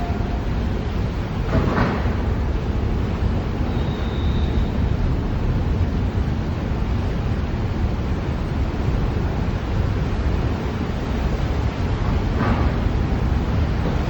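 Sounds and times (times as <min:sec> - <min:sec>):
ferry engine drone: 0:00.0 - 0:14.0
water wash: 0:00.0 - 0:14.0.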